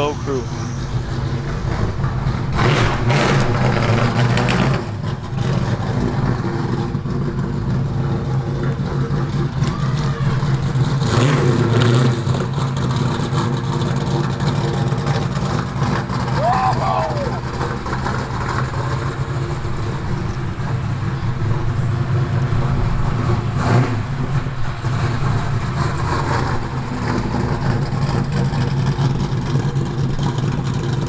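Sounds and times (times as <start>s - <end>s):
loud engine exhaust rumble: 0.0s - 31.0s.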